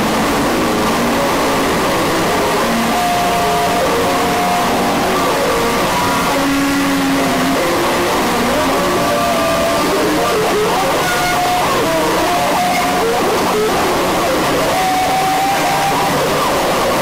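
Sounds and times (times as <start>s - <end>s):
loud hiss and static: 0.0s - 17.0s.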